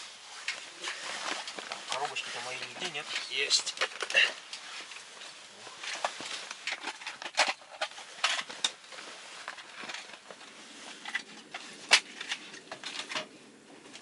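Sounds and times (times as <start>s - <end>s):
rummaging in tackle box: 0.0s - 13.3s.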